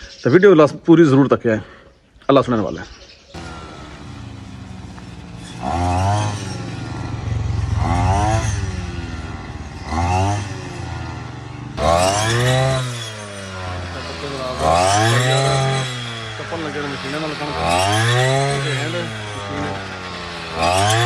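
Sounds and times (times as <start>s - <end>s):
brush cutter engine revving: 3.3s - 21.0s.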